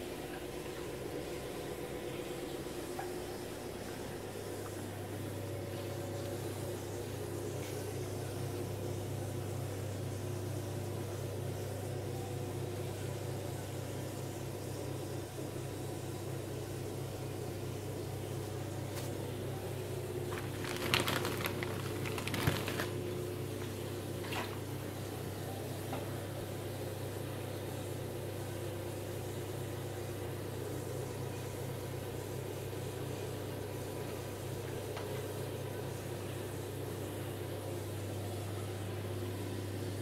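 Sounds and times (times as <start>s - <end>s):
aquarium pumps humming: 0.0s - 40.0s.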